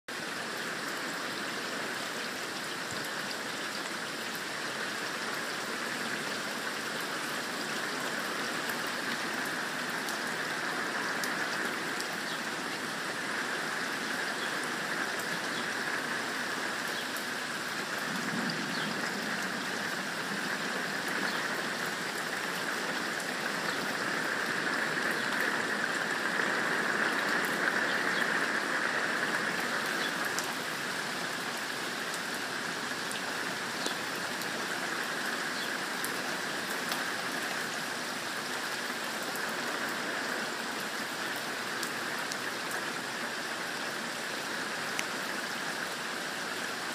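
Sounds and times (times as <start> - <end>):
heavy rain pattering on patio: 0.1 - 46.9.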